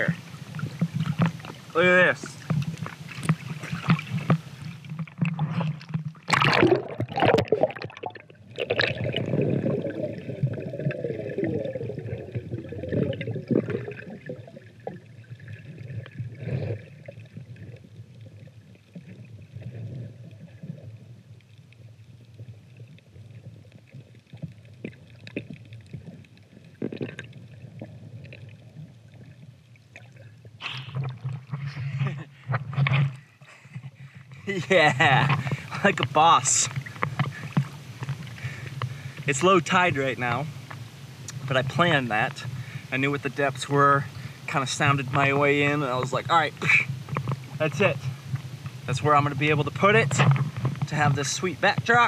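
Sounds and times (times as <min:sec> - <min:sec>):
underwater bubbling and gurgling: 0:00.0 - 0:52.0
water splashing: 0:00.0 - 0:52.0.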